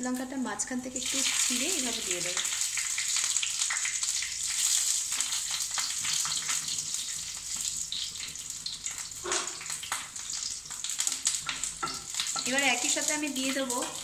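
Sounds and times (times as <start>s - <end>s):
garlic and chillies sizzling in oil: 0.0s - 14.0s.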